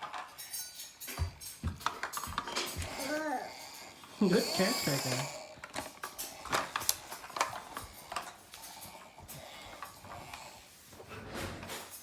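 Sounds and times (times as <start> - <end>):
toy trucks clicking and rattling: 0.0 - 12.0.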